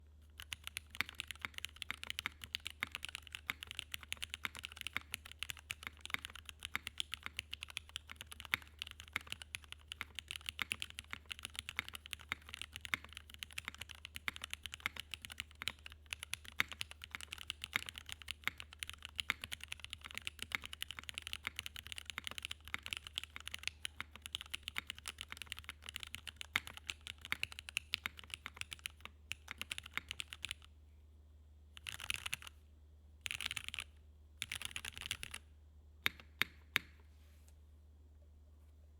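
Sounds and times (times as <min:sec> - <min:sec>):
low steady hum: 0:00.0 - 0:38.9
mechanical keyboard typing: 0:00.4 - 0:30.7, 0:31.8 - 0:32.5, 0:33.2 - 0:35.4, 0:36.0 - 0:37.0.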